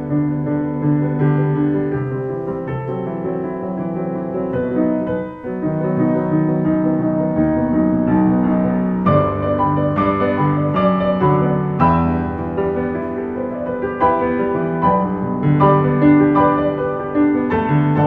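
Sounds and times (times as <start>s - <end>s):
solo grand piano: 0.0s - 18.0s.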